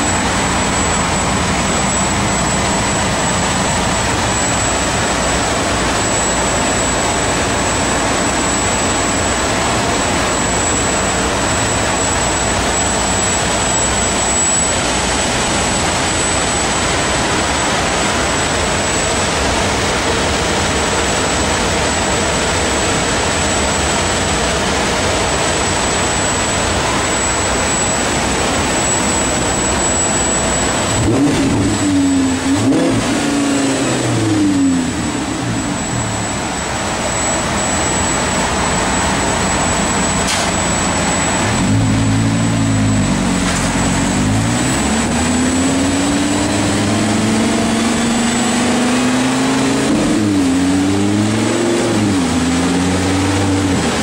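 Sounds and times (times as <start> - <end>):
car engine on dynamometer: 0.0 - 54.0
loud steady rushing noise: 0.0 - 54.0.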